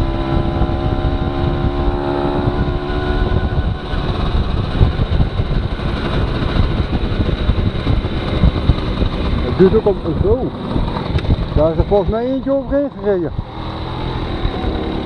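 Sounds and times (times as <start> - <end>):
moped engine running: 0.0 - 15.0
wind rumble on microphone: 0.0 - 15.0.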